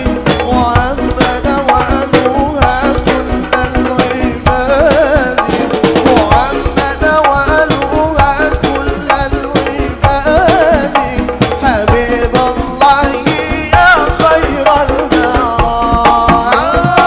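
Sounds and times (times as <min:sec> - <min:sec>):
hand drums beating fast rhythm: 0:00.0 - 0:17.0
person singing devotional song: 0:00.0 - 0:17.0.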